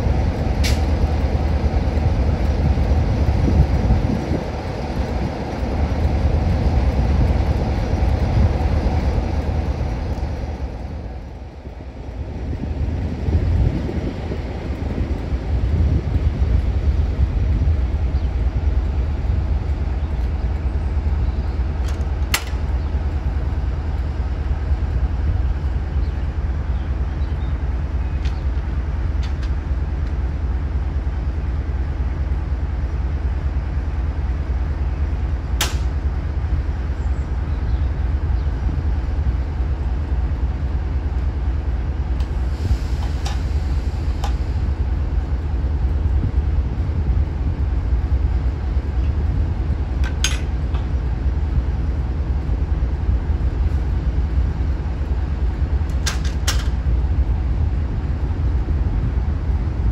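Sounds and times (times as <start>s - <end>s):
steady hum: 0.0s - 59.9s
train rumbling: 0.0s - 59.9s.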